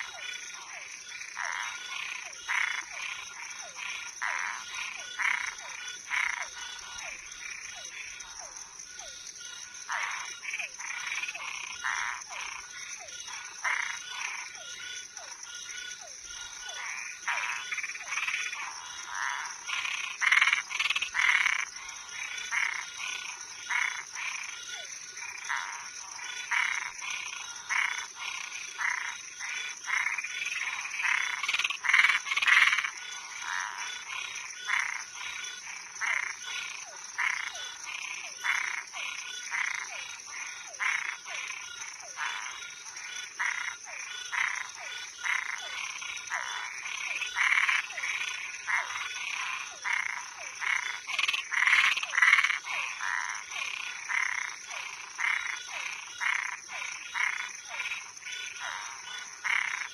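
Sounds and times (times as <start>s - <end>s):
frogs calling: 0.0s - 59.9s
high insect trill: 0.0s - 59.9s.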